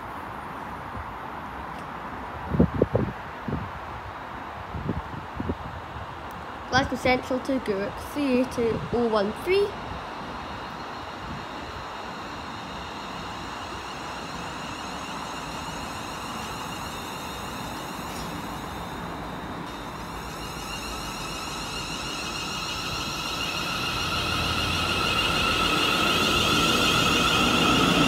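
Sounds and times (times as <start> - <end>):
electric train whine and rumble: 0.0 - 28.0.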